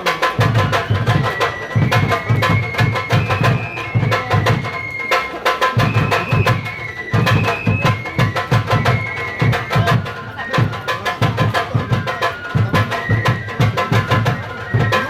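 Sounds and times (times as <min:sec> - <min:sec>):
taiko drum strokes: 0:00.0 - 0:14.9
high bamboo flute: 0:00.0 - 0:15.0.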